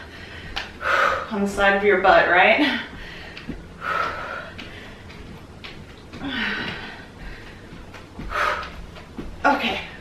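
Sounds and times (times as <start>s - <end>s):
woman breathing hard: 0.0s - 1.4s, 2.6s - 5.4s, 6.0s - 10.0s.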